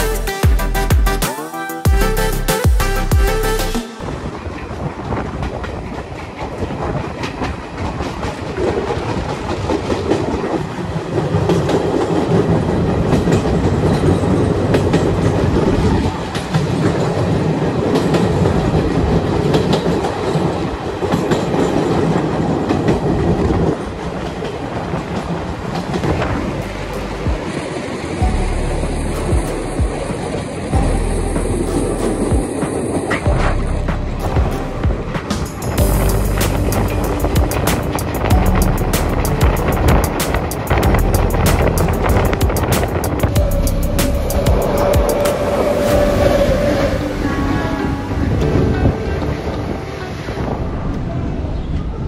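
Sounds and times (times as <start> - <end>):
train rushing rumble: 0.0 - 52.0
wheels clacking over rail joints: 4.3 - 50.3.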